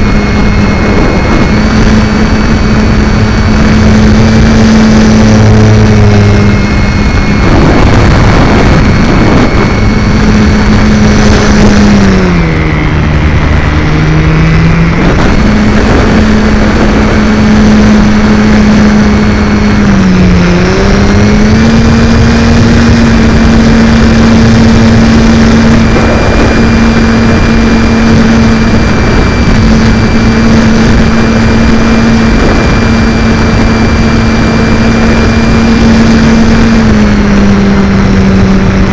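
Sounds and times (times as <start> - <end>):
electric motor propeller whine: 0.0 - 38.9
wind rushing over microphone: 0.0 - 38.9.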